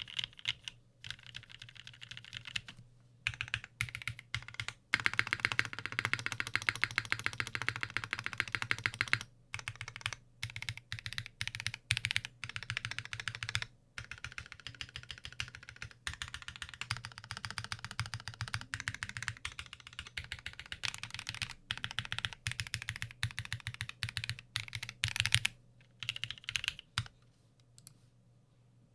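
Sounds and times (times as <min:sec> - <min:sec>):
mechanical keyboard typing: 0:00.0 - 0:27.2.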